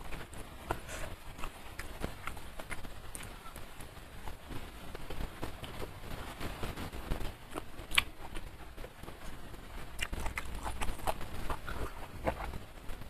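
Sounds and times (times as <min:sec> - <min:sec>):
chewing food: 0:00.0 - 0:06.4, 0:07.4 - 0:12.7.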